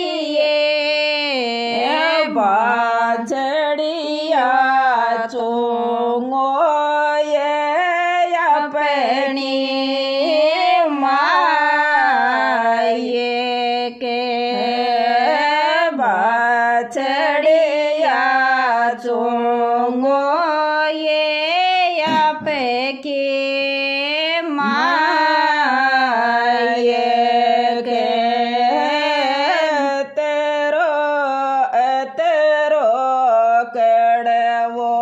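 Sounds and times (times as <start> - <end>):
woman singing devotional folk song: 0.0 - 35.0.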